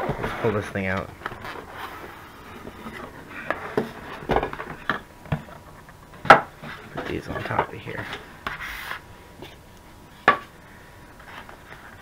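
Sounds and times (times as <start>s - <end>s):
cardboard rustling and scraping: 0.0s - 5.6s, 6.2s - 10.5s, 11.2s - 12.0s.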